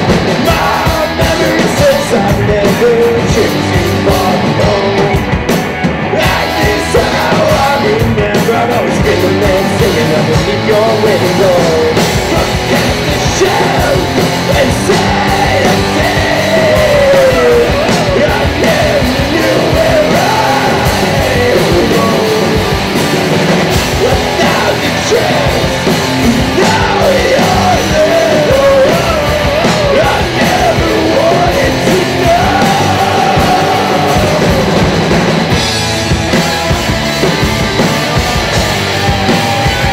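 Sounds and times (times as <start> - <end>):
man singing: 0.0 - 23.1, 23.7 - 35.2
drum kit: 0.0 - 39.9
electric guitars: 0.0 - 39.9.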